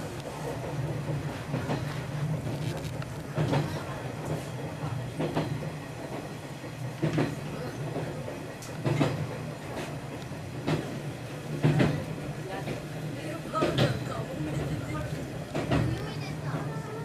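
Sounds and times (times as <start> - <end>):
train low drone: 0.0 - 17.0
wheels clacking over rail joints: 0.4 - 16.8.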